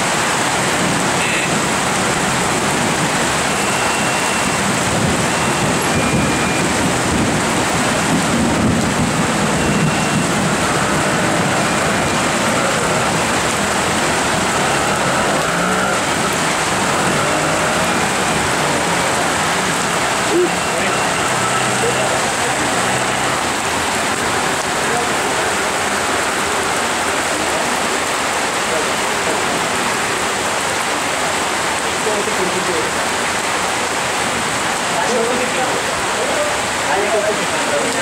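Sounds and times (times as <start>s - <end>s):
heavy rain on road: 0.0s - 38.0s.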